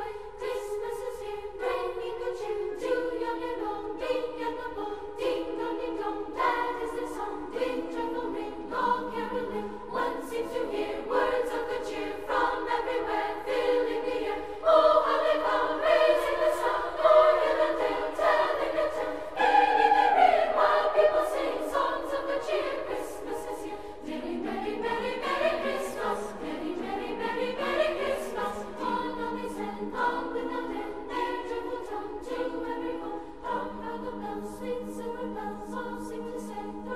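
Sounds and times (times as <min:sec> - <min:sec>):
choir singing sustained chords: 0:00.0 - 0:36.9.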